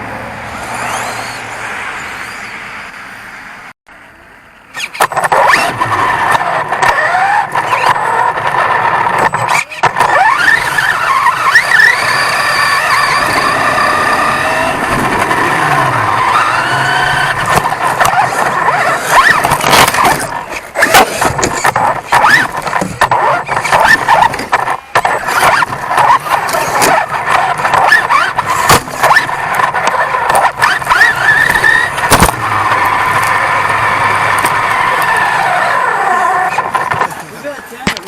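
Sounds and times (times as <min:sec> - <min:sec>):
rc truck motor whining: 0:00.0 - 0:02.9, 0:04.7 - 0:38.0.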